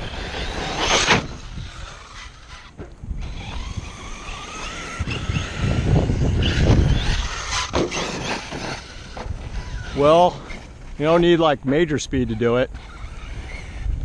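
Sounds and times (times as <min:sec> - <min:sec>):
low rumbling: 0:00.0 - 0:14.0
rc truck motors whining: 0:00.0 - 0:14.0.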